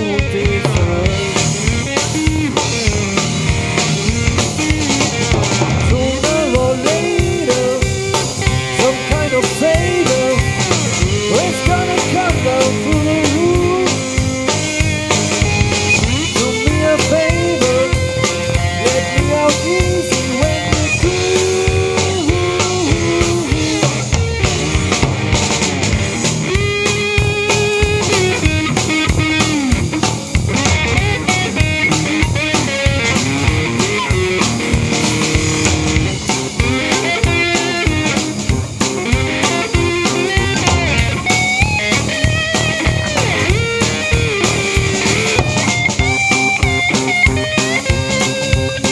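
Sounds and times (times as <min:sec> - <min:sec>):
drum kit steady beat: 0:00.0 - 0:48.9
electric bass: 0:00.0 - 0:48.9
electric guitar lead with bent notes: 0:00.0 - 0:48.9.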